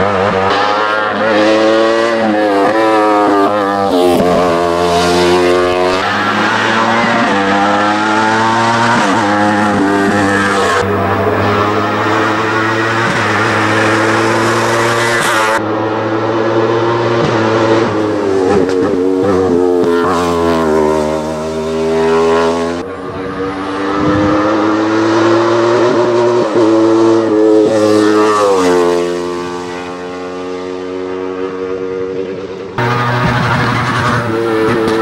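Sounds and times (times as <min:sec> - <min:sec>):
racing engine at high revs: 0:00.0 - 0:35.0.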